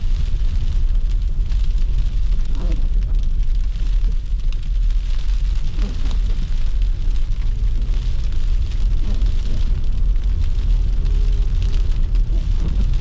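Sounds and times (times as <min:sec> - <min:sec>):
car driving on snowy streets: 0:00.0 - 0:13.0.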